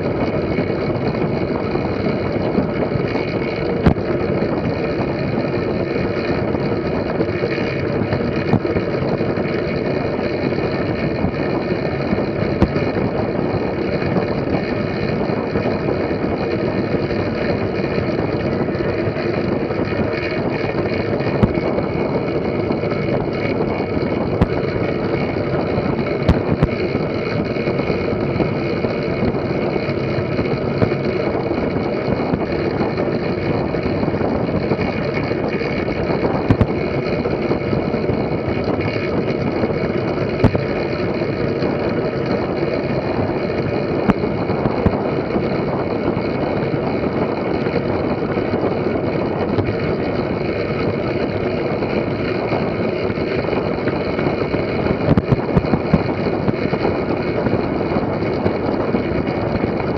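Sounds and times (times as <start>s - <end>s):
bike tyre noise: 0.0s - 59.9s
wind rush: 0.0s - 59.9s.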